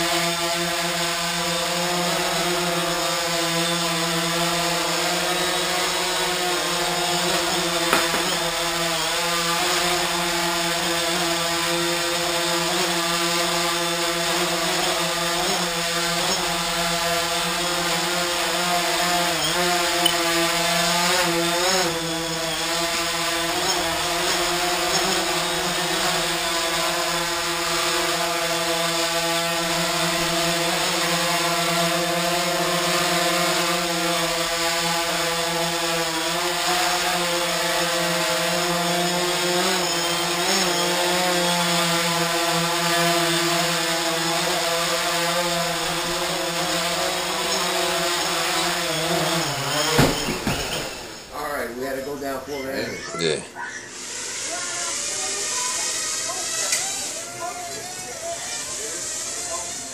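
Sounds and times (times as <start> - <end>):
drone propellers buzzing: 0.0 - 59.9.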